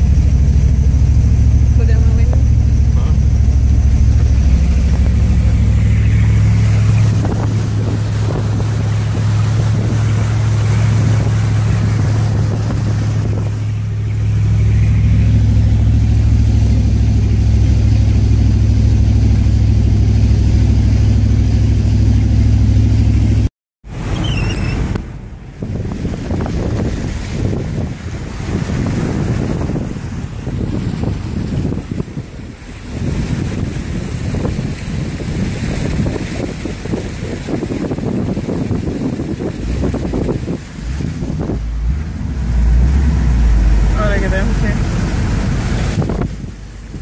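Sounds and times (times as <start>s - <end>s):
wind buffeting microphone: 0.0s - 20.6s, 23.9s - 47.0s
vehicle engine humming: 0.0s - 47.0s
water washing: 0.0s - 47.0s.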